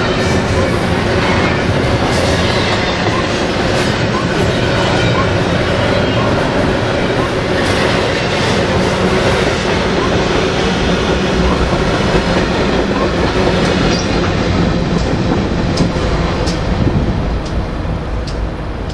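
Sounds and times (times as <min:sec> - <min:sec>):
diesel locomotive engines: 0:00.0 - 0:18.9
wheels rolling on rail: 0:00.0 - 0:18.9.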